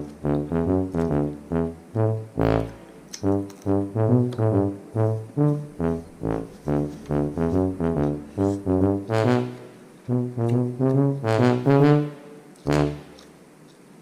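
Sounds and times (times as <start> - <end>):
bouncy melody of short pitched notes: 0.0 - 13.1.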